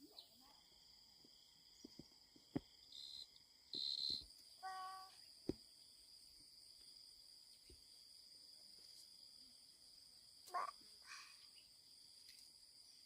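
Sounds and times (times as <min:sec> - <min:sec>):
insect chirring: 0:00.1 - 0:13.0.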